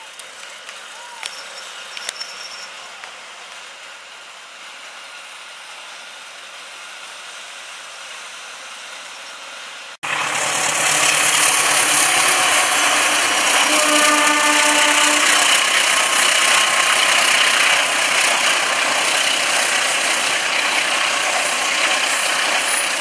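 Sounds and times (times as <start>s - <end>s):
diesel locomotive rumble: 0.1s - 23.0s
train wheels hissing on rails: 0.3s - 23.0s.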